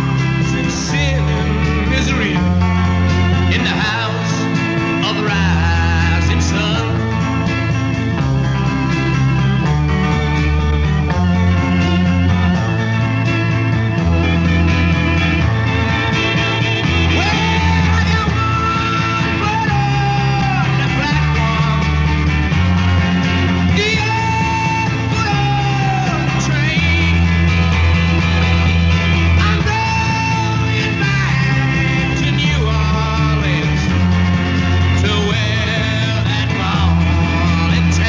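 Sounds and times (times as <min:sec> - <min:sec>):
band playing a minor-key ballad: 0:00.0 - 0:38.0
electric organ: 0:00.0 - 0:38.0.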